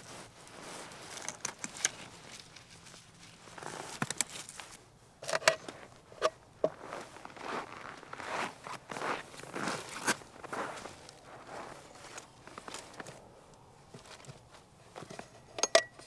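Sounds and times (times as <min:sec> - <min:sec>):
camping gear rustling: 0:00.0 - 0:15.7.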